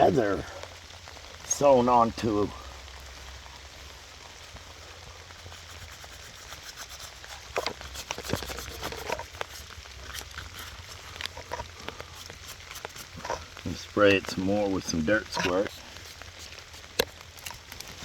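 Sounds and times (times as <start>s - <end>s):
rain falling: 0.0s - 18.0s
small clicks and scrapes: 3.4s - 18.0s.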